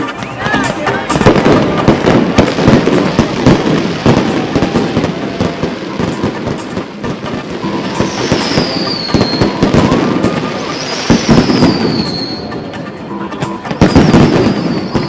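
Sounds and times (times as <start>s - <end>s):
firework whistle falling in pitch: 0.0s - 15.0s
fireworks bangs and crackles: 0.0s - 15.0s.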